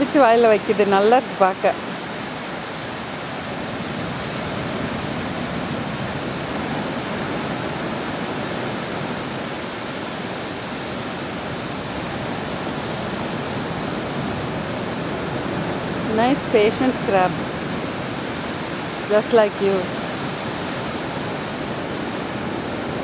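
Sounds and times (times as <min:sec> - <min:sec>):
surf washing along shore: 0:00.0 - 0:23.0.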